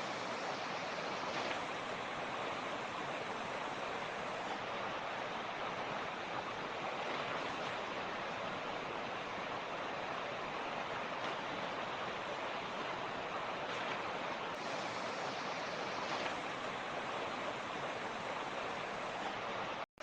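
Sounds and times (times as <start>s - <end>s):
creek flowing over rocks: 0.0s - 19.9s.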